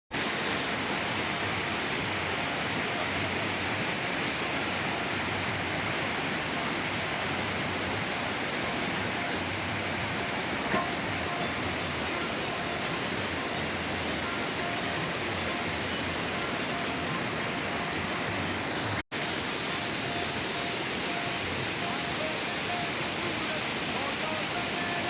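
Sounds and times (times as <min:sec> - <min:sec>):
waterfall rushing: 0:00.2 - 0:25.0.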